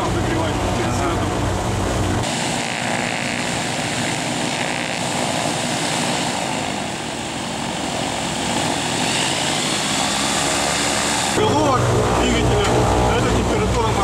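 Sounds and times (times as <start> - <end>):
aircraft engines idling: 0.0 - 14.0.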